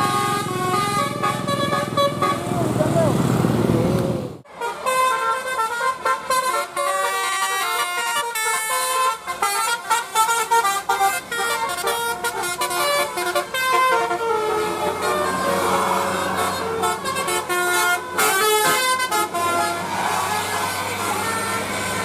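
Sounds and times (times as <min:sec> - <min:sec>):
musical air horn tune: 0:00.0 - 0:02.7, 0:04.5 - 0:22.0.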